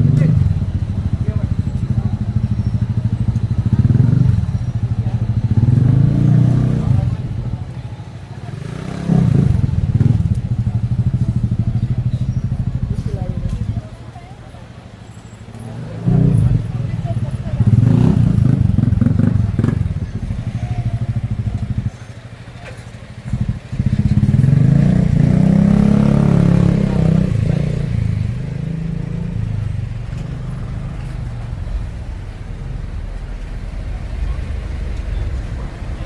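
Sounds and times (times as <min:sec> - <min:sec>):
motorbike passing by: 0:00.0 - 0:14.6, 0:15.4 - 0:36.0
motorbike engine pulsing: 0:00.0 - 0:36.0.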